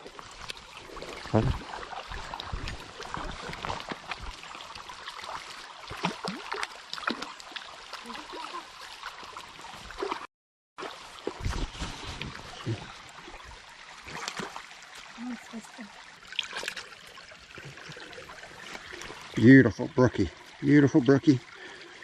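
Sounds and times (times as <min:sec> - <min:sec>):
close splashes: 0:00.0 - 0:19.4
creek running: 0:00.0 - 0:22.0.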